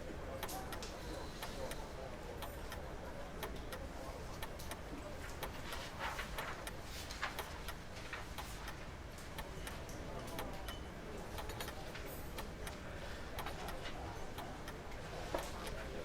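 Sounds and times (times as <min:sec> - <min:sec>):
faint murmur of voices: 0:00.0 - 0:16.0.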